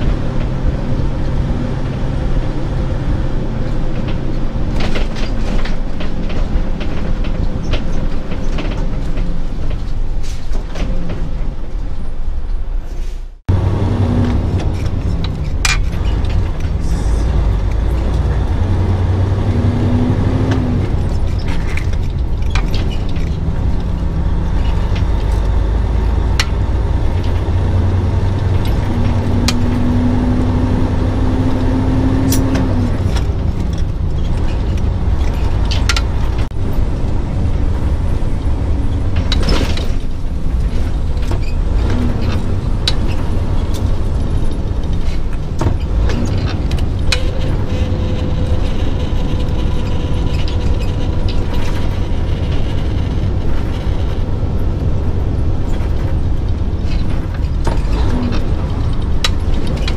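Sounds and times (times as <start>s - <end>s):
truck engine drone from inside cab: 0.0s - 59.9s
clicks and rattles: 3.6s - 11.9s, 14.2s - 19.7s, 20.4s - 30.6s, 31.5s - 59.9s.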